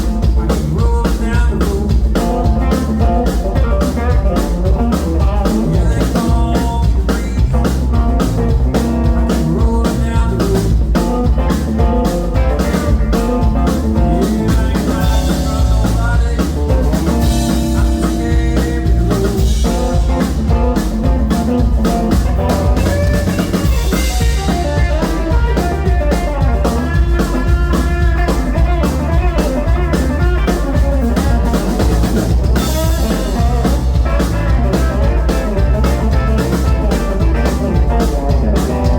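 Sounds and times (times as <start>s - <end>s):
bass: 0.0s - 38.9s
drum kit beat: 0.0s - 38.9s
electric guitar: 0.0s - 38.9s.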